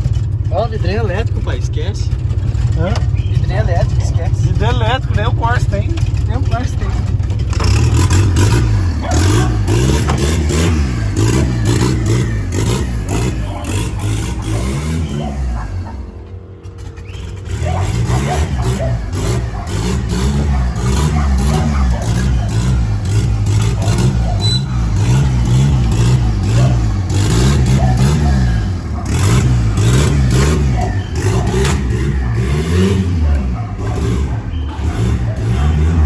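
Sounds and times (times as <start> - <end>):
pickup engine throttle blips: 0.0 - 36.0.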